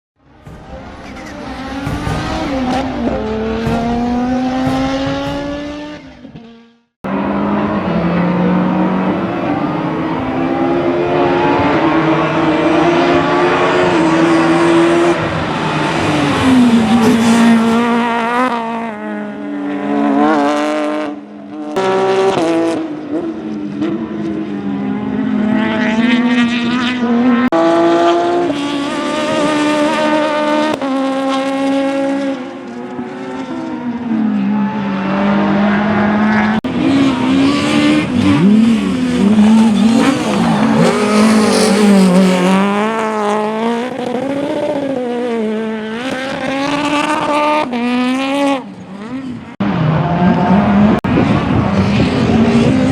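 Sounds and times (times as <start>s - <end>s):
rally car engine revving: 0.4s - 52.9s.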